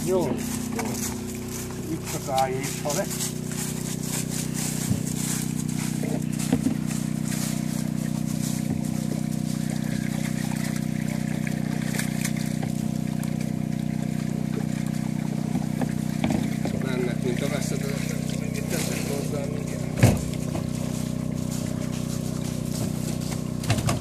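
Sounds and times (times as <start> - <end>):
water trickling: 0.0 - 23.7
engine humming: 0.0 - 24.0.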